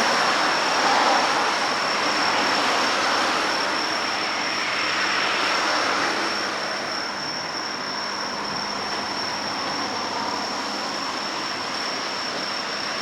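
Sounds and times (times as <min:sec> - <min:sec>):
high-pitched whine: 0:00.0 - 0:13.0
steady wash of noise: 0:00.0 - 0:13.0.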